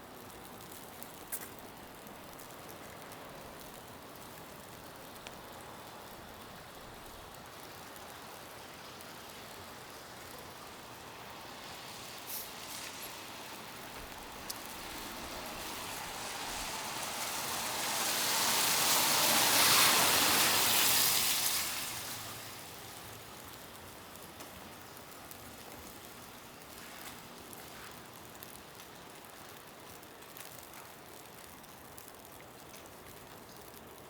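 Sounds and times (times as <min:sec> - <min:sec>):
vehicle tyre hiss on snow: 0:00.3 - 0:31.1.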